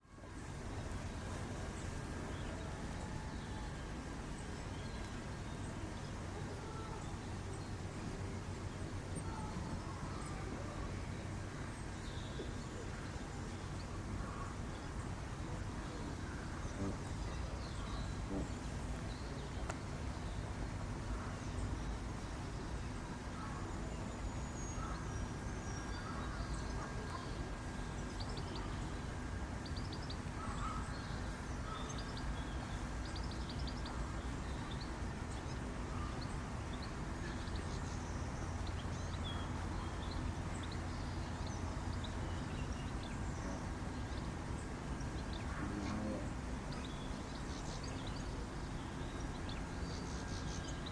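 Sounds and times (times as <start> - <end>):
low background hum: 0.0 - 50.9
small birds chirping: 0.3 - 50.9.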